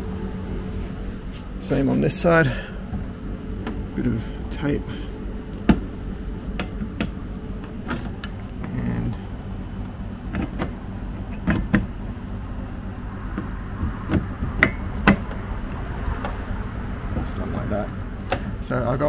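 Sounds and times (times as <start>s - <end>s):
low rumble: 0.0s - 18.3s.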